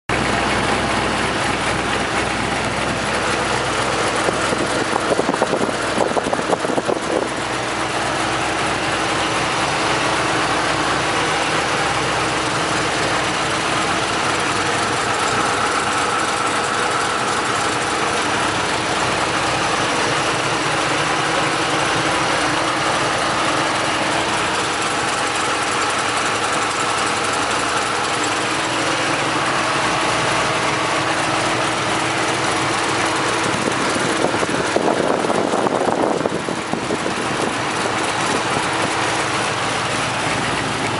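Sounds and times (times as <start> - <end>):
vehicle engine idling: 0.1 - 40.9
rapid uneven ticking: 0.2 - 40.9.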